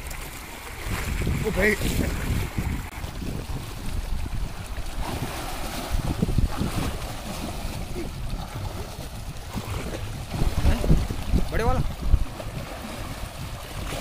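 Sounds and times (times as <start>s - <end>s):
water rushing from a pipe: 0.0s - 14.0s
wind rumbling on microphone: 0.0s - 14.0s.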